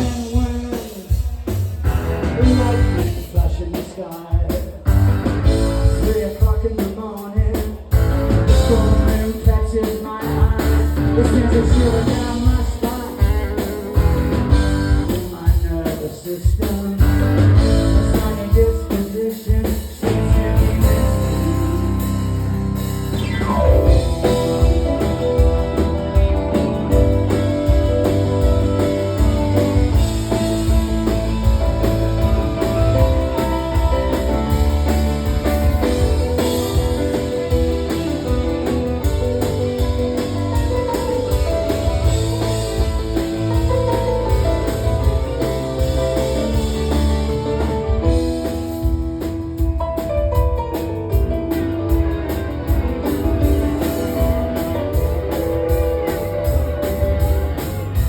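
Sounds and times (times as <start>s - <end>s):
drum kit beat: 0.0s - 58.0s
guitar: 0.0s - 58.0s.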